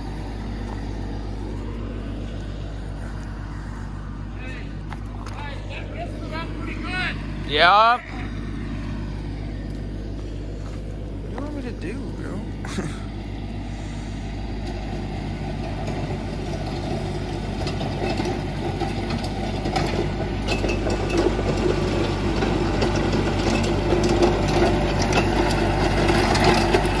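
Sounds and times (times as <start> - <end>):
gravel and blade clatter: 0.0 - 27.0
tractor diesel engine running: 0.0 - 27.0.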